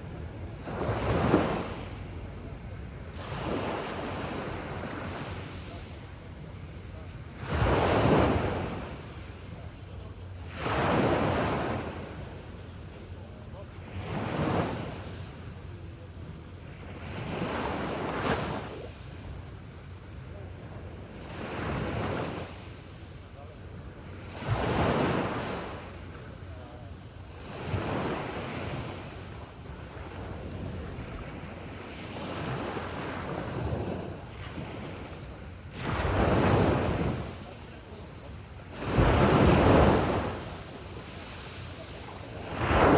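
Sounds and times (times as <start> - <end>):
sea waves washing onto beach: 0.0 - 42.9.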